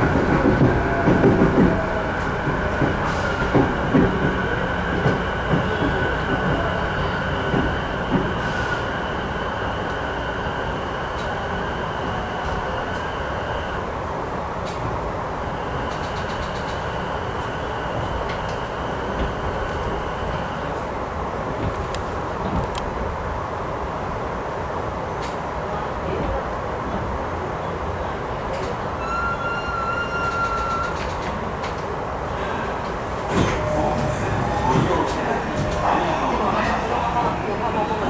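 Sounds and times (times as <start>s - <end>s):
train wheels rumbling: 0.0s - 23.0s, 28.2s - 38.0s.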